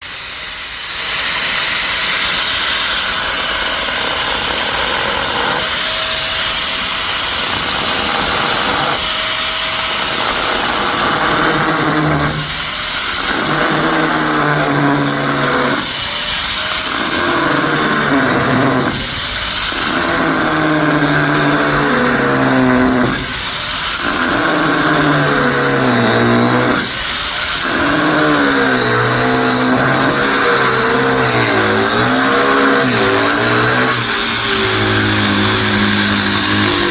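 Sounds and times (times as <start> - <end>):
electric drill boring into stone: 0.1 - 36.9.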